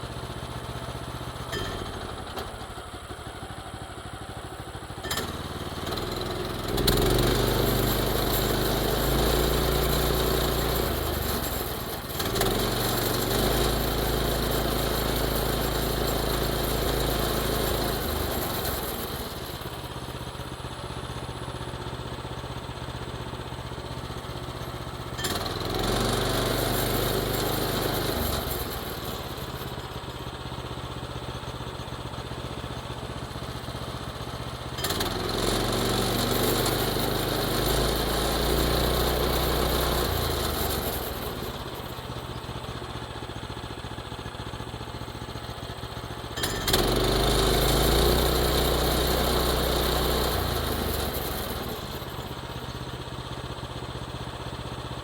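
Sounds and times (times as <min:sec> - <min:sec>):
small engine idling and revving: 0:00.0 - 0:55.0.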